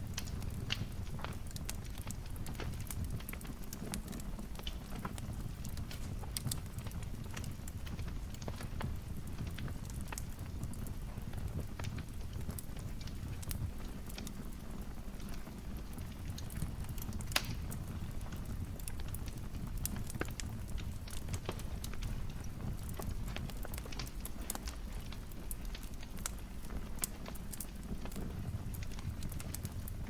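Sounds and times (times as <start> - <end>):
fire crackling and popping: 0.0 - 30.0
low steady fire rumble: 0.0 - 30.0.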